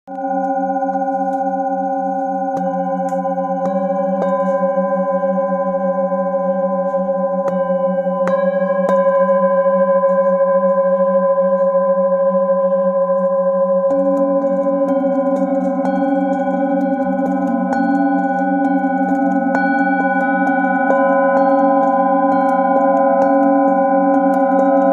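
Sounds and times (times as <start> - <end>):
singing bowls humming: 0.1 - 24.9.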